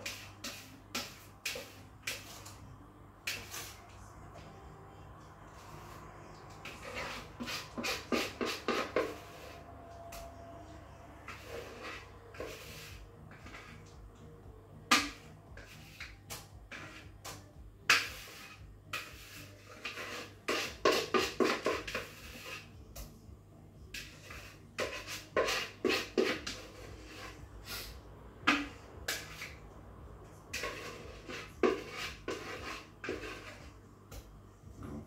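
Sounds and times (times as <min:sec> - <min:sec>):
spatula scraping mixing bowl: 0:00.0 - 0:02.6, 0:03.2 - 0:14.3, 0:14.9 - 0:23.1, 0:23.9 - 0:29.7, 0:30.4 - 0:33.8.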